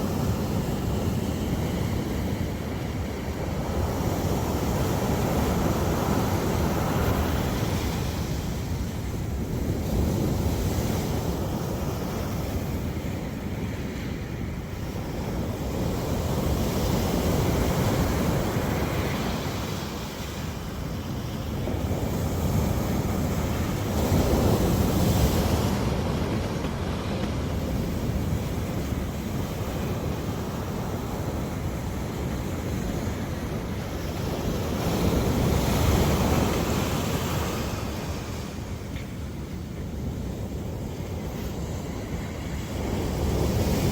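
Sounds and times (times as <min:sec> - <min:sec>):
ocean waves breaking on shore: 0:00.0 - 0:43.9
wind buffeting microphone: 0:00.0 - 0:43.9.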